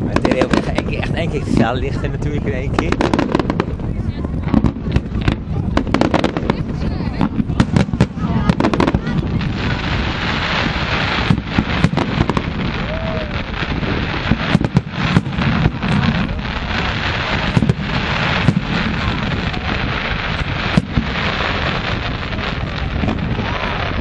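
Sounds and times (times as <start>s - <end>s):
dense firework crackle: 0.0s - 24.0s
firework shells bursting: 2.7s - 23.4s.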